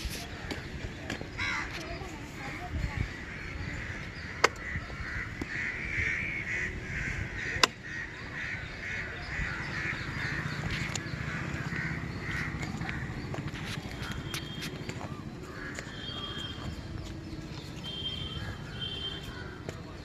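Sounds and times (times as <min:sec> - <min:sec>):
birds giving harsh calls: 0:00.0 - 0:20.0.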